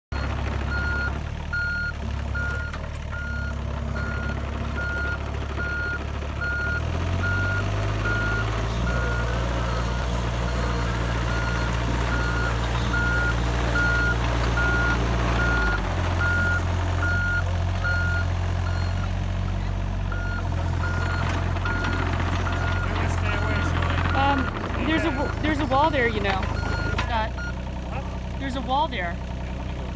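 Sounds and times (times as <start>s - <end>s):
excavator travel alarm beeping: 0.1s - 19.1s, 20.1s - 27.6s
diesel engine running: 0.1s - 29.9s.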